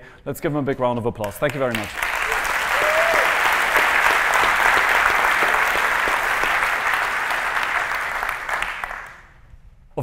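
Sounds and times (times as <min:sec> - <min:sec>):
audience applauding: 0:01.3 - 0:09.4.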